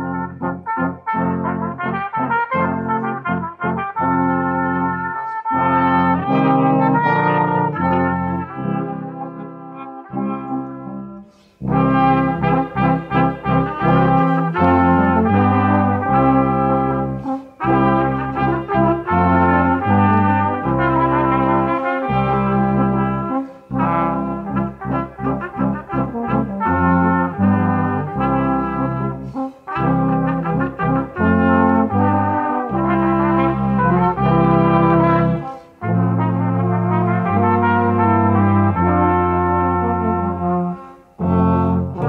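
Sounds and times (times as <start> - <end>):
brass ensemble playing: 0.0 - 42.0.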